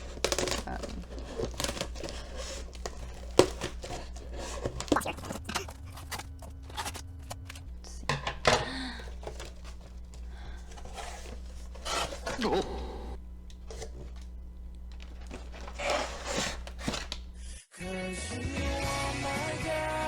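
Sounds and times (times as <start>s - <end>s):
packaging crinkling and tearing: 0.0s - 12.7s, 13.3s - 17.6s.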